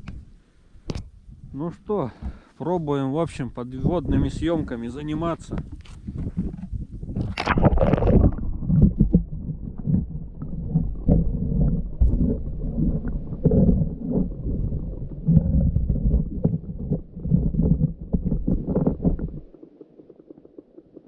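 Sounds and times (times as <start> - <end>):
muffled underwater rumbling: 3.8 - 21.0.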